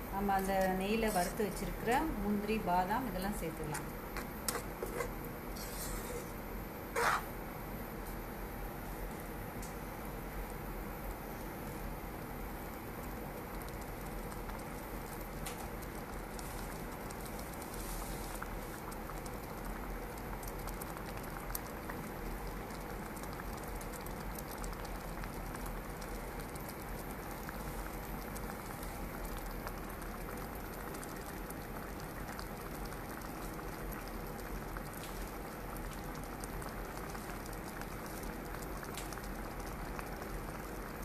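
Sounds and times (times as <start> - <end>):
syrup bubbling and popping: 0.0 - 7.4, 9.5 - 41.0.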